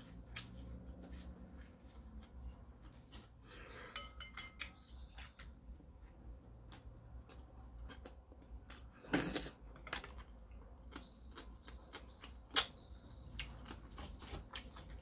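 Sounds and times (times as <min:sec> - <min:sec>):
soft eating sounds: 0:00.0 - 0:15.0.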